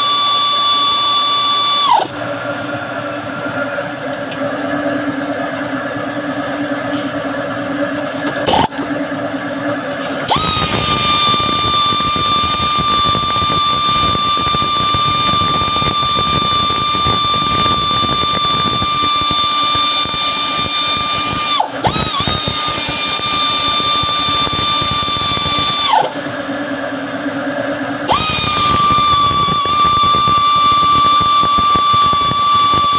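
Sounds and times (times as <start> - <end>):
power tool high whine: 0.0 - 32.9.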